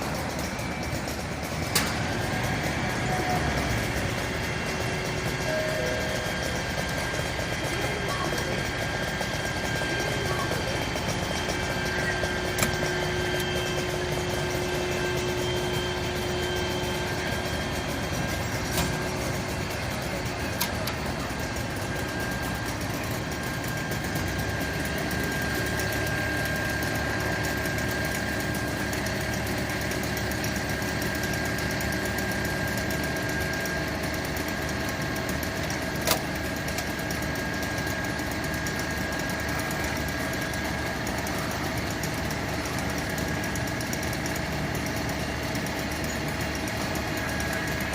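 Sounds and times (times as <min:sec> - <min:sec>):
fire truck engine idling: 0:00.0 - 0:47.9
thin steady whine: 0:00.0 - 0:47.9.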